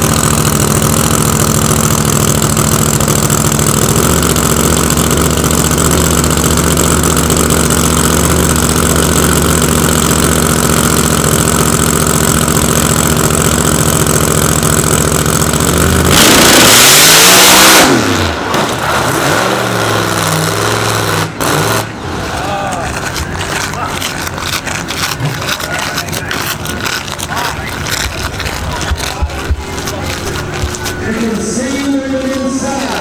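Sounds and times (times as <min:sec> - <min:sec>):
loud truck engine: 0:00.0 - 0:33.0.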